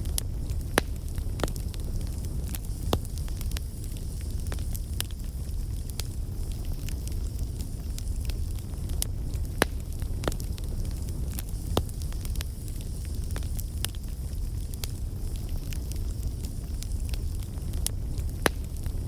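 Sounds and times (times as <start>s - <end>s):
bonfire flames rumbling: 0.0s - 19.0s
fire crackles and pops: 0.0s - 19.0s.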